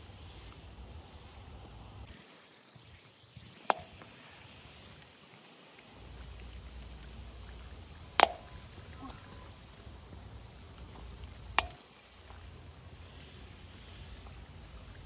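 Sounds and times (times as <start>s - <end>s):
corn kernels popping in oil: 2.0s - 15.0s.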